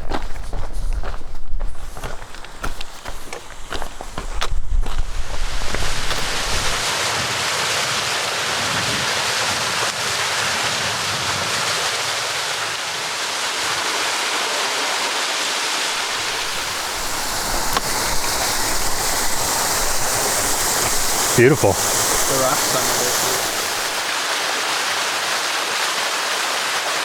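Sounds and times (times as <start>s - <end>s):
stream water rushing: 1.8s - 10.4s, 11.6s - 27.0s.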